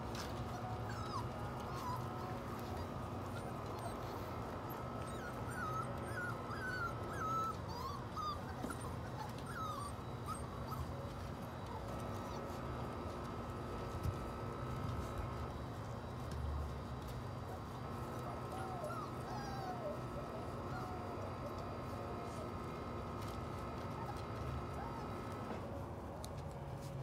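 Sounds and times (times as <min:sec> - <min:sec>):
puppies whimpering and squeaking: 0:00.0 - 0:25.8.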